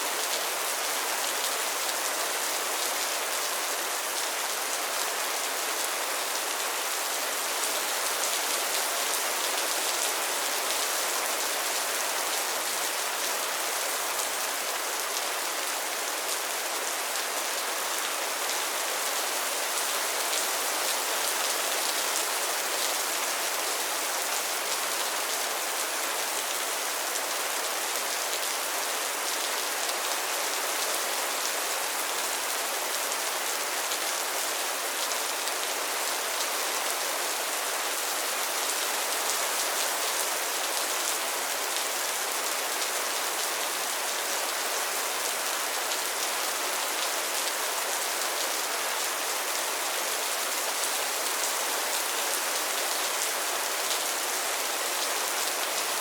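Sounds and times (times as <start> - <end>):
rain falling on a pond: 0.0 - 56.0.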